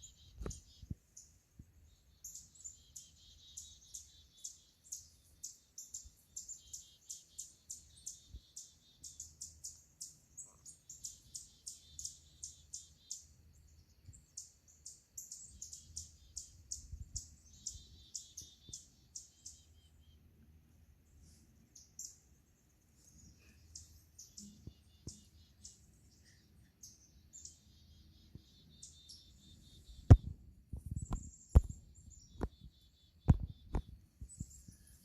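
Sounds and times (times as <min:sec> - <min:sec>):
small songbirds chirping: 0:00.0 - 0:35.0.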